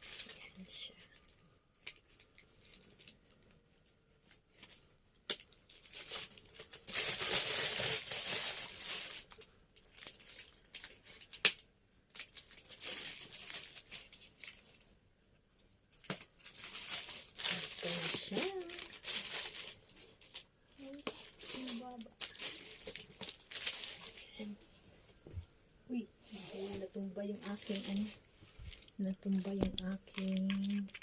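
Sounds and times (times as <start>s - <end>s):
packaging crinkling and tearing: 0.0s - 3.5s, 4.2s - 14.8s, 15.9s - 24.6s, 27.3s - 31.0s.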